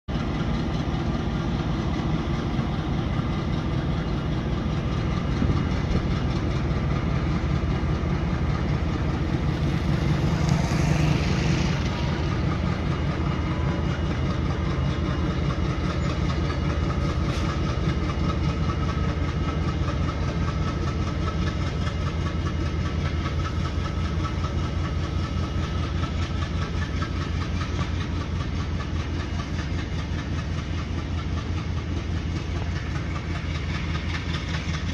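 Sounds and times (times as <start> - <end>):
diesel locomotive engine rumbling: 0.0 - 34.9.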